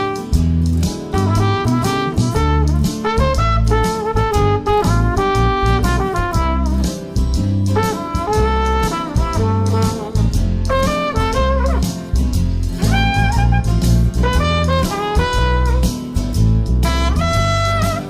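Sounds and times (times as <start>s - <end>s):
brass band playing: 0.0s - 12.1s, 12.8s - 16.1s, 16.8s - 18.0s
steady drum beats: 0.0s - 18.0s.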